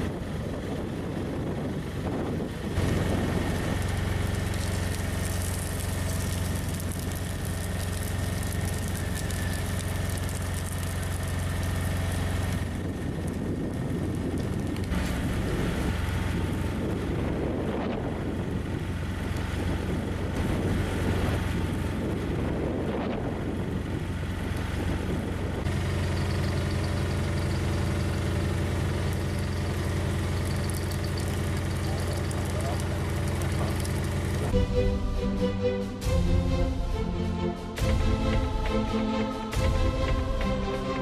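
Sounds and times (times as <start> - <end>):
heavy machinery engine hum: 0.0 - 41.0.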